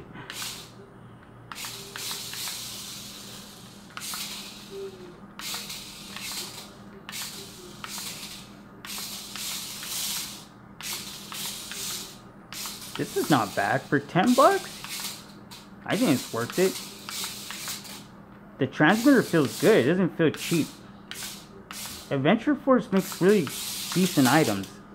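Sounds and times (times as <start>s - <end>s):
wheels scrubbing on tile: 0.0s - 0.8s, 1.5s - 18.1s, 18.9s - 22.1s, 23.0s - 24.7s
toy car motor whirring: 0.2s - 0.8s, 1.5s - 18.1s, 18.9s - 22.1s, 23.0s - 24.8s.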